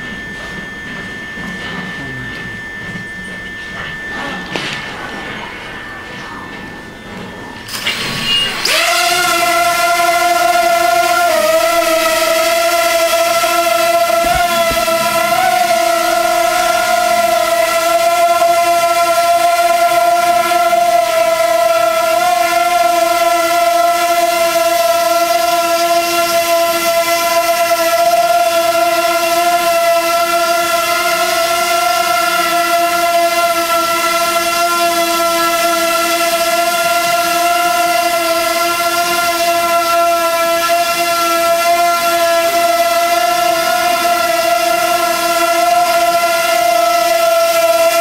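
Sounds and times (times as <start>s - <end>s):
small drone propellers whining: 0.0s - 48.0s.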